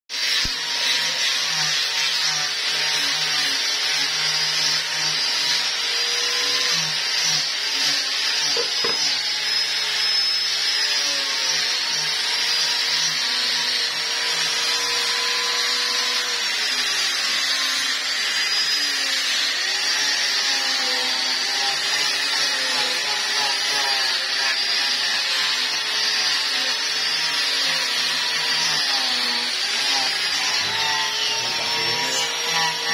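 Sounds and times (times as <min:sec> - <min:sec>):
sanding disc rasping on wood: 0:00.1 - 0:32.9
angle grinder motor whine: 0:00.2 - 0:32.9.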